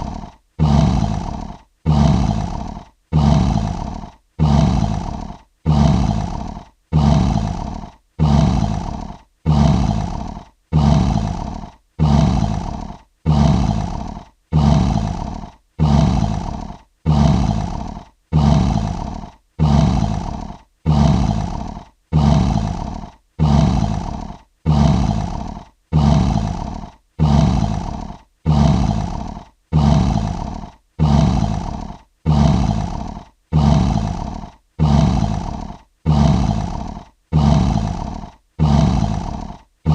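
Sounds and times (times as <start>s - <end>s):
lion roar: 0.0s - 39.9s.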